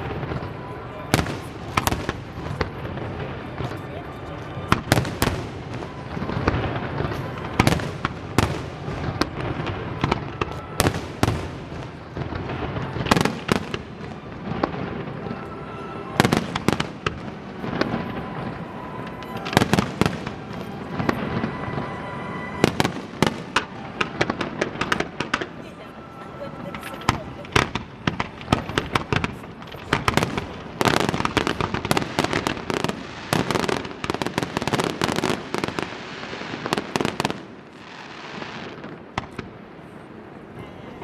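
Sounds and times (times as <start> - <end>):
fireworks bangs: 0.0 - 41.0
fireworks crackling: 0.0 - 41.0.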